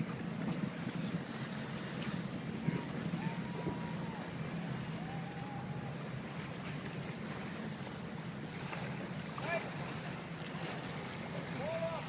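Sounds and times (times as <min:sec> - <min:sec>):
water rushing past boat: 0:00.0 - 0:12.0
wind buffeting microphone: 0:00.0 - 0:12.0.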